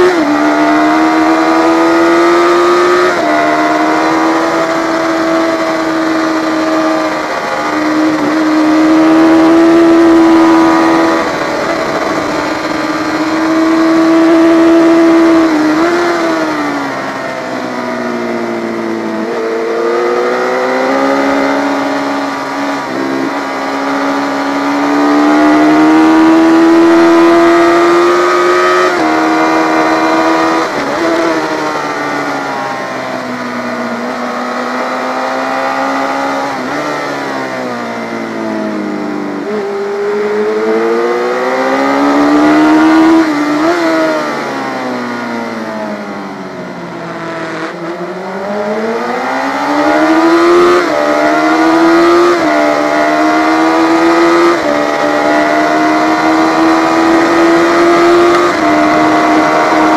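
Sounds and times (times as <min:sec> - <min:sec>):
racing motorcycle engine revving: 0:00.0 - 0:59.9.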